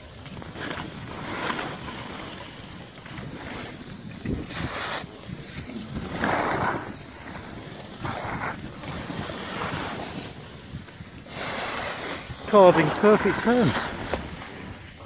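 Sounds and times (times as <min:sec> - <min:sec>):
skis scraping on snow: 0:00.0 - 0:15.0
wind rumbling on microphone: 0:00.0 - 0:15.0.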